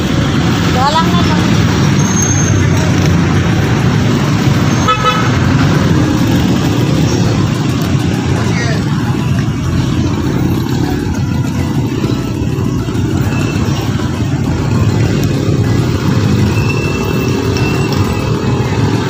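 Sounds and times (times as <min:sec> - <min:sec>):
low rumble of street noise: 0:00.0 - 0:19.0.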